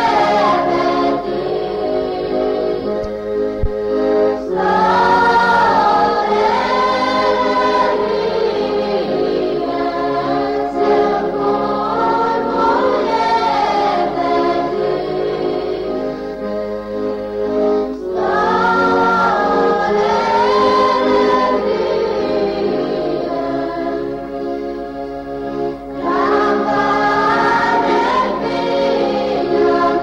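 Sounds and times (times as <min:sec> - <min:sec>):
choir singing held notes: 0:00.0 - 0:30.0.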